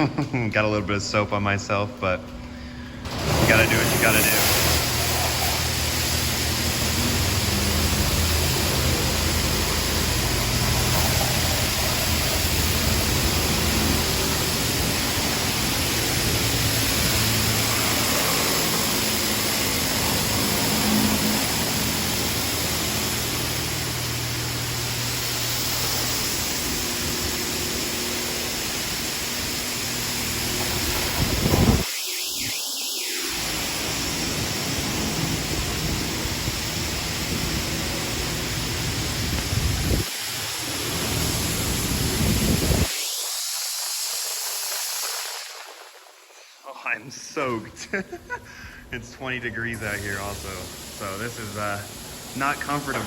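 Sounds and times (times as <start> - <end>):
high-pressure water spray hissing: 2.8 - 48.7, 49.4 - 53.0.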